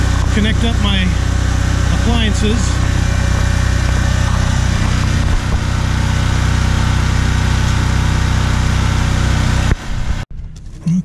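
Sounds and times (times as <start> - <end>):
generator engine drone: 0.0 - 11.0.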